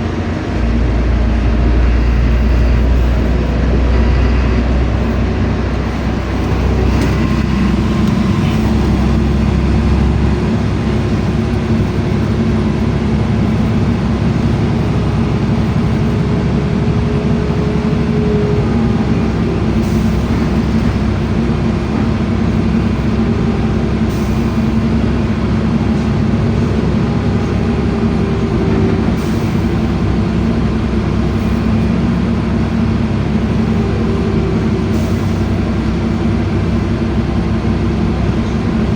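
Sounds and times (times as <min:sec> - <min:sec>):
bus engine drone: 0:00.0 - 0:38.9
road rumble: 0:00.0 - 0:38.9.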